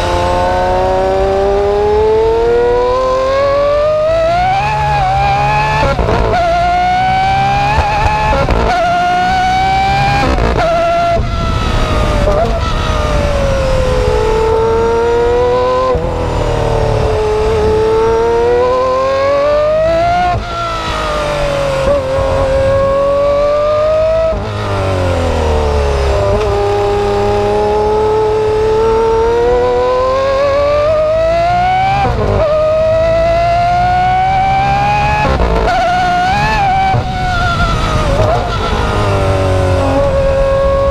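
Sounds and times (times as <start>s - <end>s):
car engine revving hard: 0.0s - 40.9s
gear changes: 0.0s - 40.9s.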